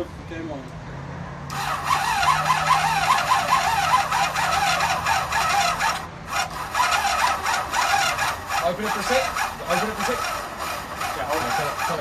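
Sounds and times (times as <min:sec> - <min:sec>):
motorcycle starter cranking: 0:01.5 - 0:12.0.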